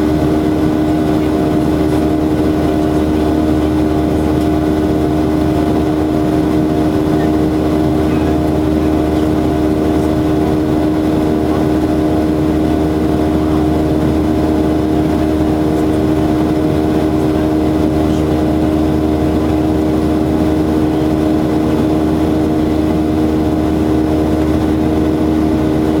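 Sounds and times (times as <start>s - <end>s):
jet engines droning in cabin: 0.0s - 26.0s.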